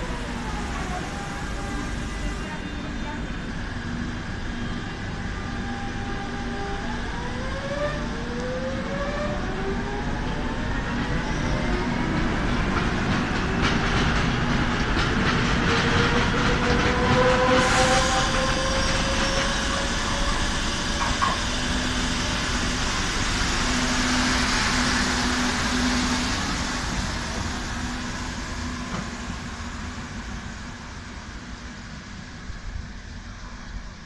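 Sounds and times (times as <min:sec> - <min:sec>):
train wheels and motor rolling: 0:05.9 - 0:34.0.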